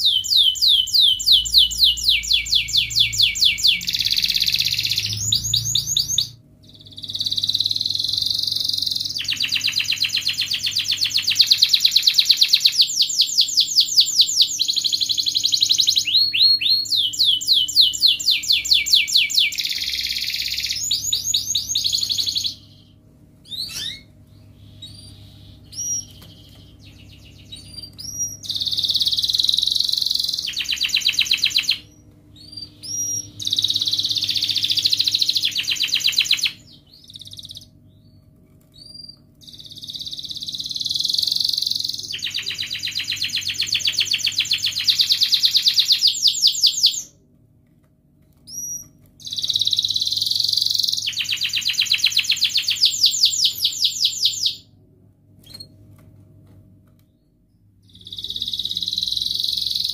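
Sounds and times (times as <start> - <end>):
canary singing trills: 0.0 - 47.2, 48.5 - 54.7, 57.5 - 59.9.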